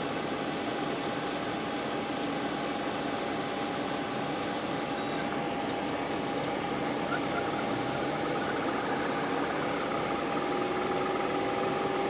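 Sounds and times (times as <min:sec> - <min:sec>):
air conditioner fan hum: 0:00.0 - 0:12.0
faint high whine: 0:01.8 - 0:12.0.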